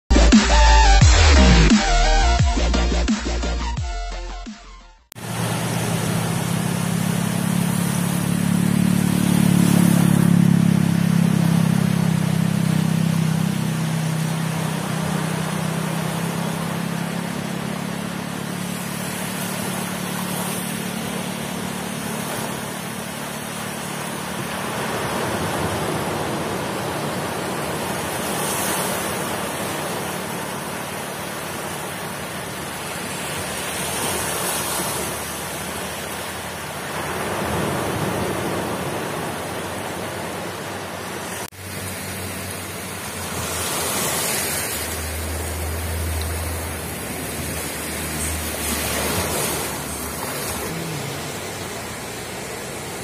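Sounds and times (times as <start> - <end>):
surf breaking on beach: 5.2 - 53.0.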